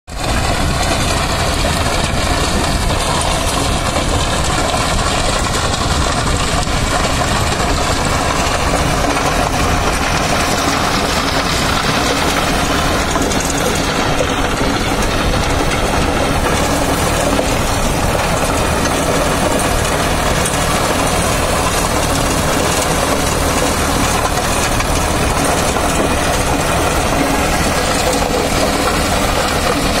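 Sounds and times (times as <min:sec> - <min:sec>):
tractor diesel engine: 0:00.1 - 0:30.0
rotavator blades churning soil: 0:00.2 - 0:30.0.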